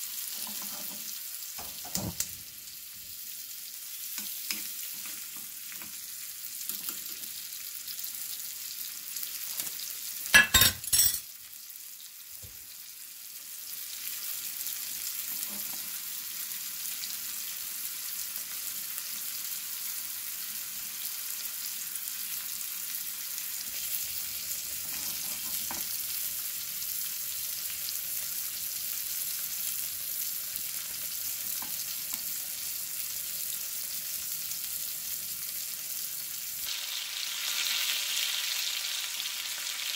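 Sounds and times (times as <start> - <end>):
steak and onions sizzling in pan: 0.0 - 39.9.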